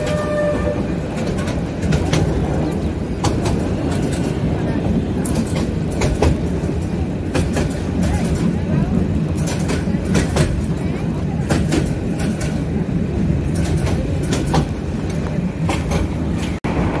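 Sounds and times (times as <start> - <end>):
wheels clicking and knocking: 0.0 - 16.7
train railcars rumbling: 0.0 - 17.0.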